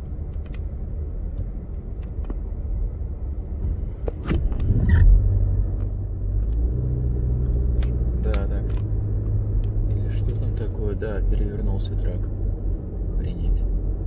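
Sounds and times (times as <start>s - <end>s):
steady low hum: 0.0s - 14.0s
tyre and road rumble: 0.0s - 14.0s.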